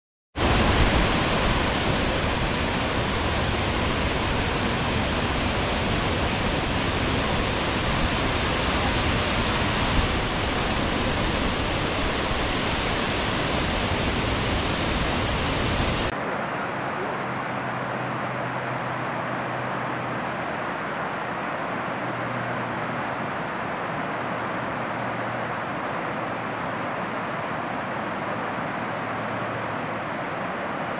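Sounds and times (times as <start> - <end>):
waterfall rushing: 0.4 - 30.9.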